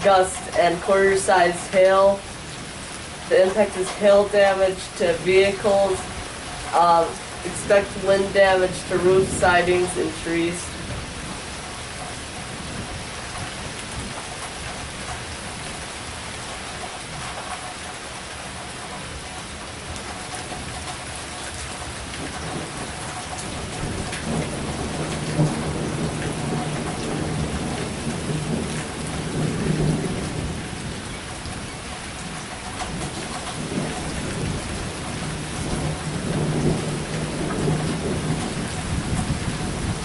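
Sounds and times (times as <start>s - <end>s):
low rumble of thunder: 0.0s - 40.0s
rain pouring: 0.0s - 40.0s.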